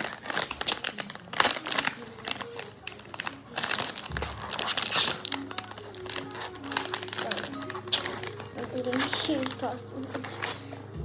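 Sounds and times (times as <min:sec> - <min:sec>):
crinkling and crackling handling noise: 0:00.0 - 0:11.0.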